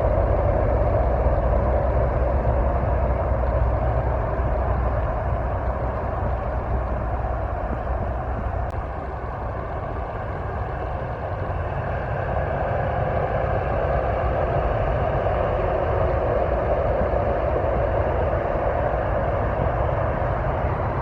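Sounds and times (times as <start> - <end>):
road vehicle rumble: 0.0 - 21.0.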